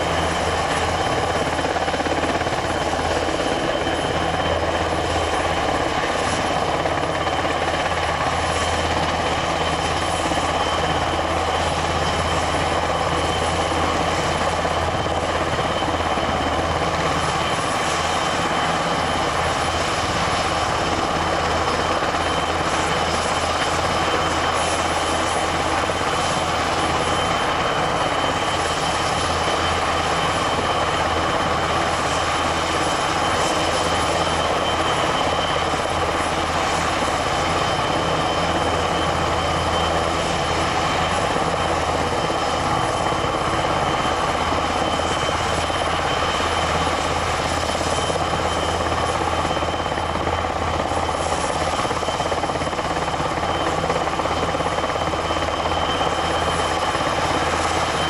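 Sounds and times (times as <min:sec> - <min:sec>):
helicopter rotor noise: 0:00.0 - 0:58.0
helicopter turbine whine: 0:00.0 - 0:58.0.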